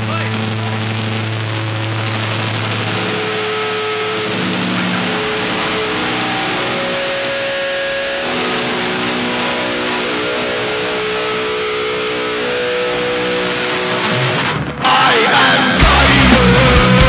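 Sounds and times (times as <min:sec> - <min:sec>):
distorted electric guitars: 0:00.0 - 0:17.0
heavy rock band playing: 0:00.0 - 0:17.0.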